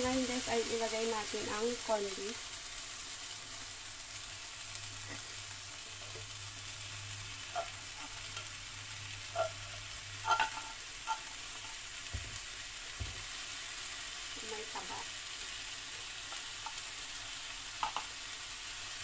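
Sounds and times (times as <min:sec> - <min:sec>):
vegetables sizzling in frying pan: 0:00.0 - 0:19.0.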